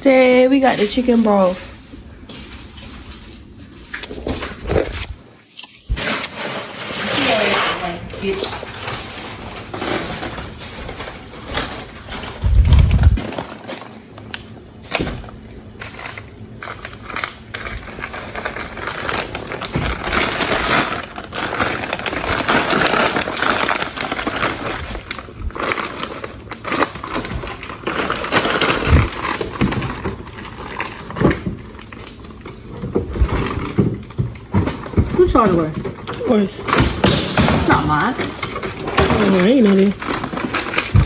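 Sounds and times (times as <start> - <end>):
packaging and bags rustling: 0.1 - 41.0.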